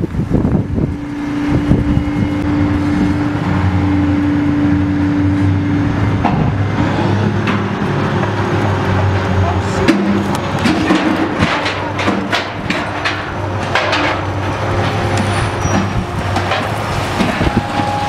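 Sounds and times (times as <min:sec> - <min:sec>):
crane engine running with whine: 0:00.0 - 0:18.0.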